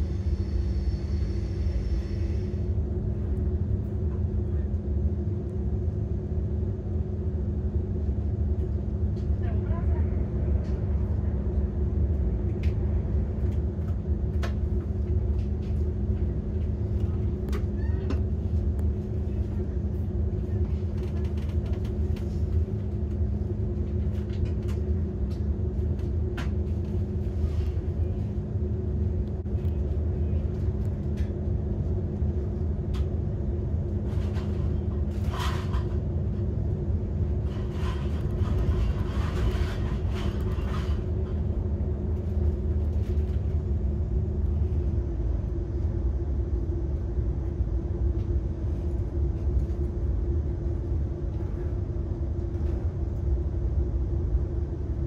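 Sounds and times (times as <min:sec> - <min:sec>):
train coach rumble: 0:00.0 - 0:55.0.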